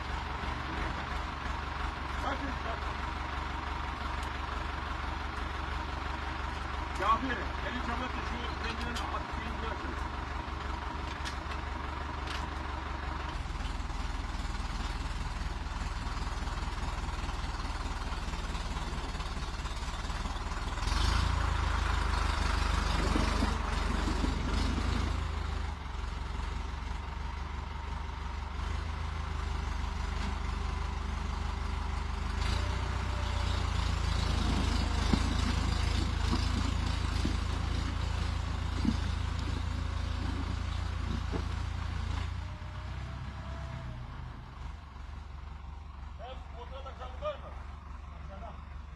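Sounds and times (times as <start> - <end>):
tractor engine drone: 0.0 - 48.9.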